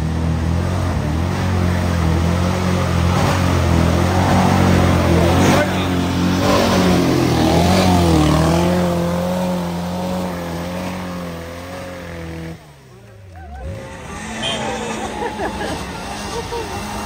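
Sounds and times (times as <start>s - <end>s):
car engine pulling uphill: 0.0s - 17.0s.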